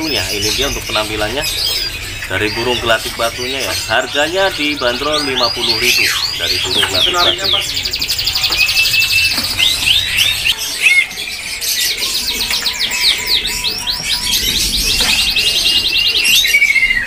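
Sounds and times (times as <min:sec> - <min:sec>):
songbirds singing and chirping: 0:00.0 - 0:17.0.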